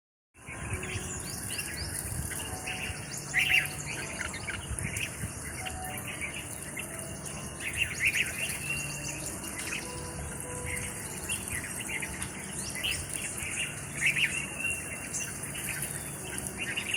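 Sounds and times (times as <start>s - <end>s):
birds chirping: 0.4s - 16.9s
high-pitched insect hiss: 0.7s - 16.9s.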